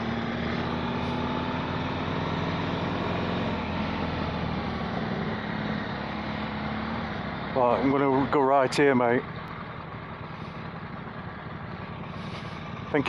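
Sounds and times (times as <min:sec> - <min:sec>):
motorcycle engine cruising: 0:00.0 - 0:13.0
road and wind noise: 0:00.0 - 0:13.0.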